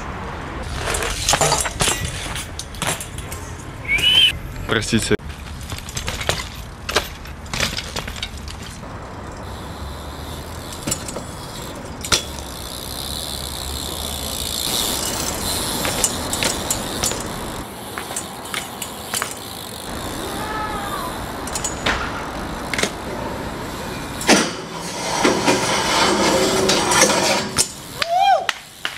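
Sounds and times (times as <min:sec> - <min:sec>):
bike tyres rolling on pavement: 0:00.0 - 0:28.9
city street noise: 0:00.0 - 0:28.9
bike frame knocks and clacks: 0:00.6 - 0:03.7, 0:05.2 - 0:28.9.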